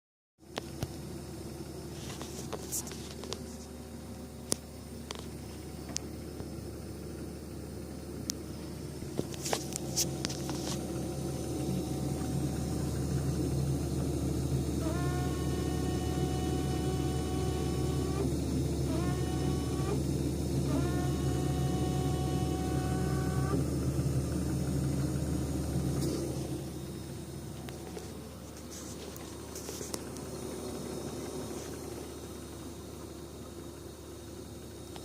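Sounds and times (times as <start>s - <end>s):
refrigerator humming: 0.4s - 35.0s.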